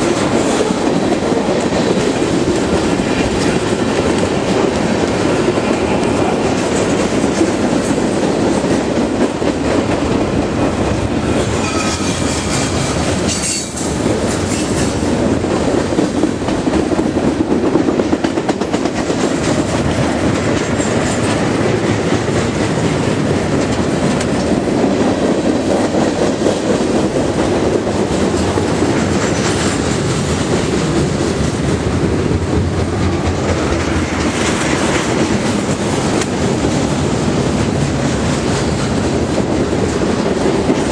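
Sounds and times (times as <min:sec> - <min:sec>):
train wheels clattering over rail joints: 0:00.0 - 0:40.9.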